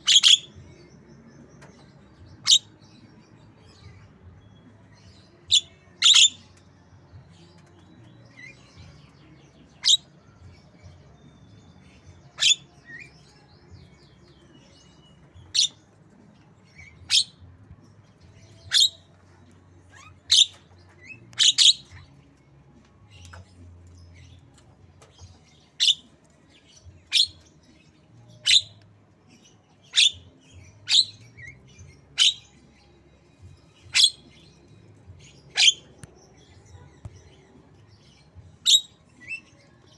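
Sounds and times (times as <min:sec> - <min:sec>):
faint bird chatter: 0:00.0 - 0:39.9.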